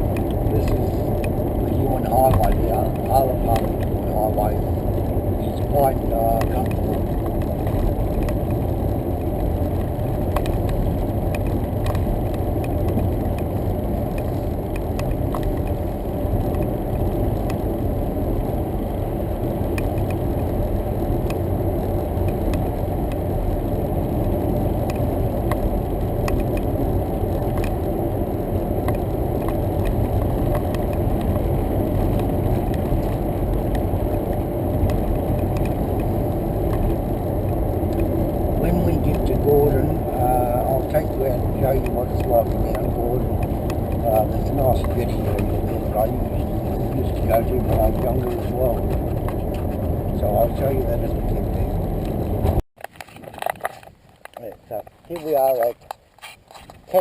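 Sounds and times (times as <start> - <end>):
tyre and engine rumble: 0.0 - 57.0.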